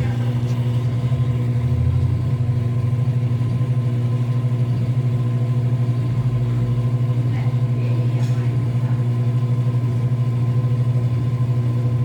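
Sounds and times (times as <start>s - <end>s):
washing machine motor hum: 0.0s - 12.0s.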